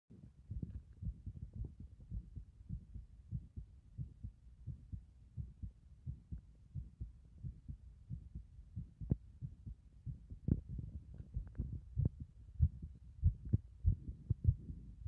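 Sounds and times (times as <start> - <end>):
heartbeat thumps: 0.1 - 15.0.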